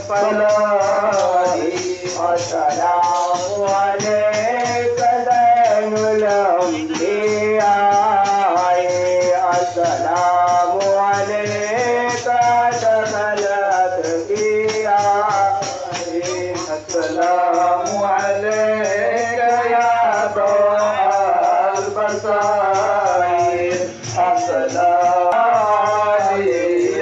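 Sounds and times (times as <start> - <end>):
frame drums with jingles: 0.0 - 27.0
men singing a chant: 0.0 - 27.0.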